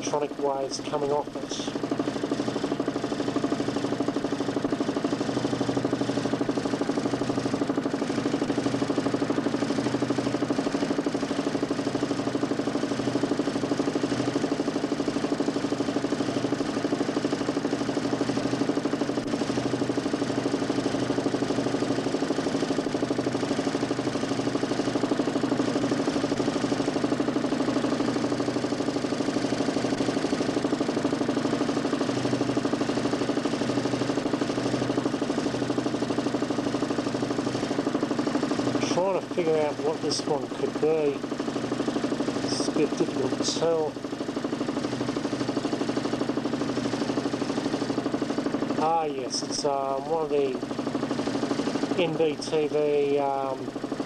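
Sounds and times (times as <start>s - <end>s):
motor humming with pulsing: 0.0s - 54.0s.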